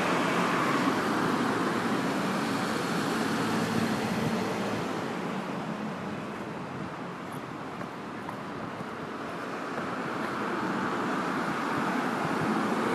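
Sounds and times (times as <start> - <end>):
road traffic passing: 0.0 - 12.9.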